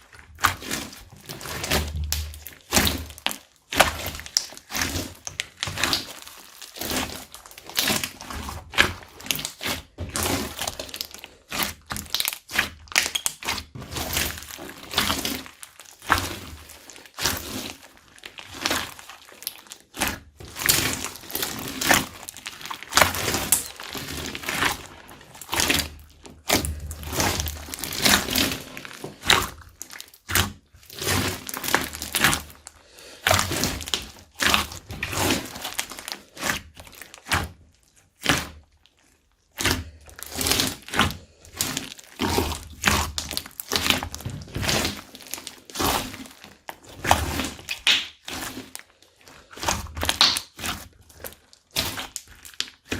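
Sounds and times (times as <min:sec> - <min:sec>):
slime squished by hand: 0:00.0 - 0:52.9.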